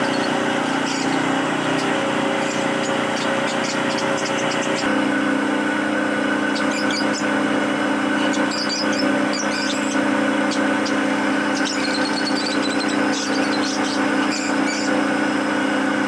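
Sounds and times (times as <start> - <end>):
birds chirping in high squeaks: 0.0 - 5.2, 6.2 - 15.4
steady mechanical hum: 0.0 - 16.0.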